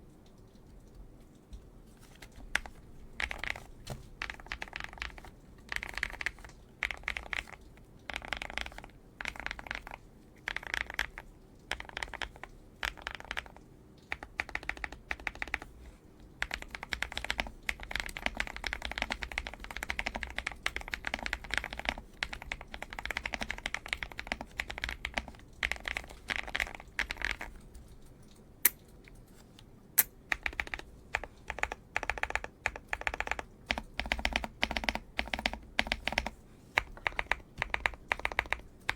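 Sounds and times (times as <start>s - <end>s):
mechanical keyboard typing: 2.0s - 29.0s, 30.0s - 38.9s.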